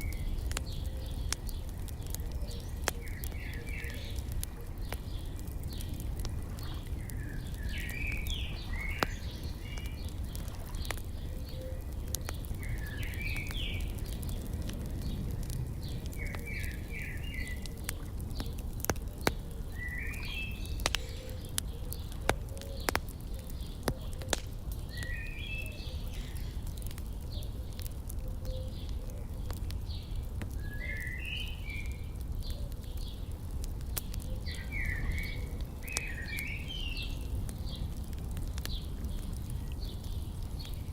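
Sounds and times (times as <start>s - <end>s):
songbird chirping: 0.0s - 33.3s, 33.9s - 38.0s
wood fire crackling: 0.0s - 40.9s.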